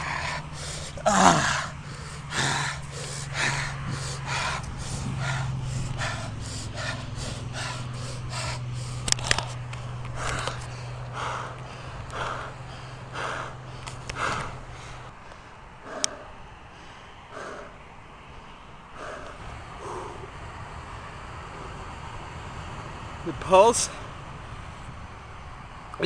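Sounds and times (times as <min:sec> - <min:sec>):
person panting: 0:00.0 - 0:20.4, 0:21.4 - 0:22.0
low hum: 0:00.0 - 0:23.3.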